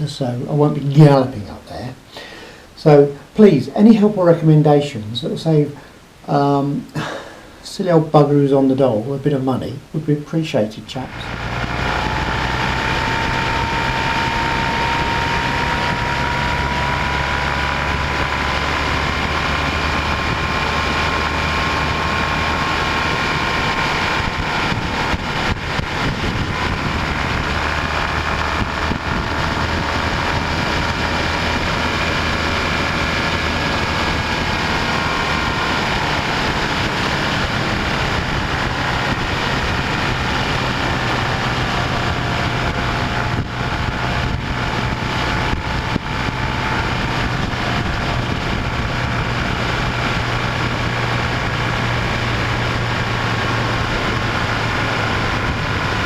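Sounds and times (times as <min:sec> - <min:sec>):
vehicle engine humming: 0:11.1 - 0:56.0.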